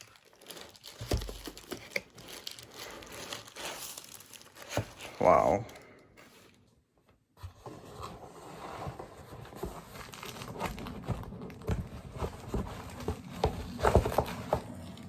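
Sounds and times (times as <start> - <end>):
wrapping crinkling and tearing: 0.0 - 6.7, 9.4 - 15.0.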